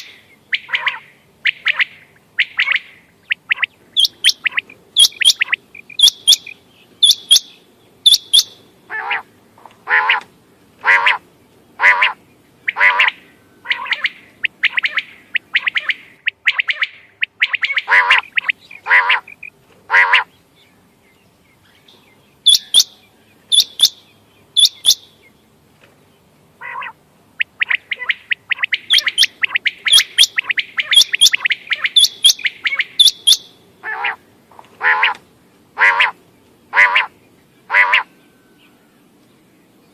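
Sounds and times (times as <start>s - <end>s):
quail calling: 0.0s - 11.2s, 11.8s - 20.3s, 22.5s - 24.0s, 24.6s - 25.1s, 26.6s - 34.2s, 34.8s - 35.2s, 35.8s - 38.1s.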